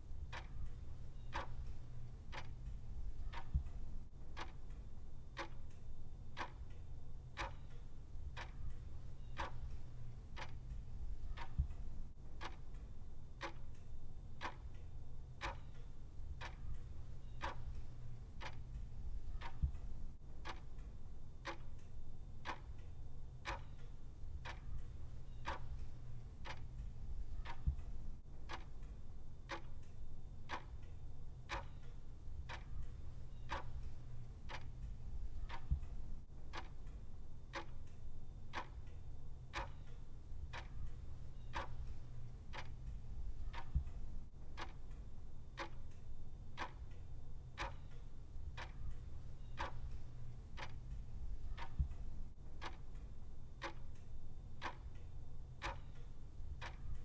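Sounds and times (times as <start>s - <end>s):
faint low hum: 0.0s - 57.0s
clock ticking: 0.2s - 57.0s.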